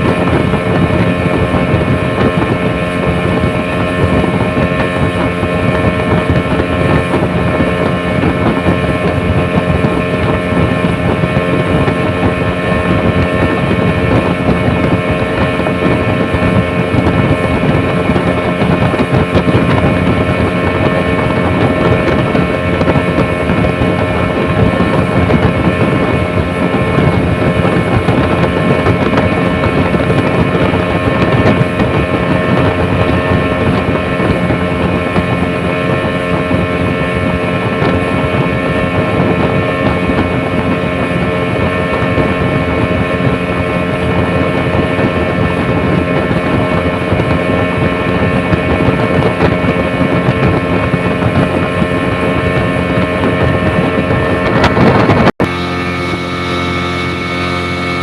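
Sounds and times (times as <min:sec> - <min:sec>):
constant rushing noise: 0:00.0 - 0:58.0
engine running steadily: 0:00.0 - 0:58.0.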